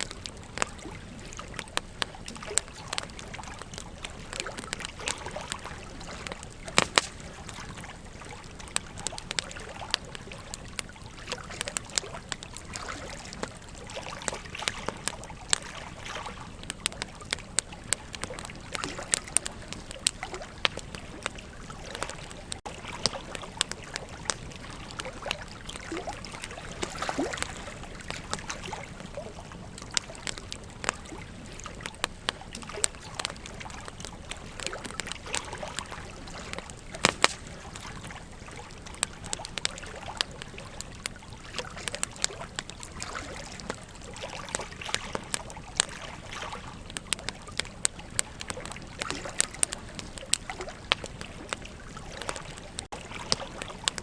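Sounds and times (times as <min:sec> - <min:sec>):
river trickling: 0:00.0 - 0:54.0
wood fire crackling and popping: 0:00.0 - 0:54.0.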